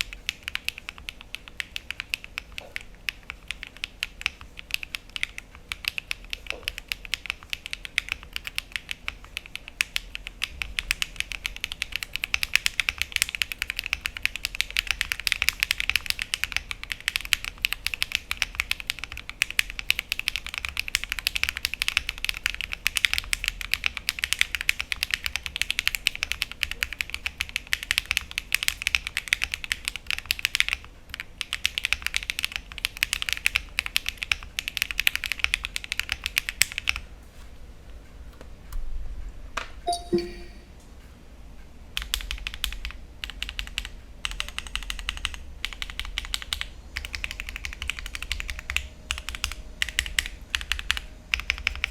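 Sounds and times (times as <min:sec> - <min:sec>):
mechanical keyboard typing: 0:00.0 - 0:37.0, 0:42.0 - 0:51.9.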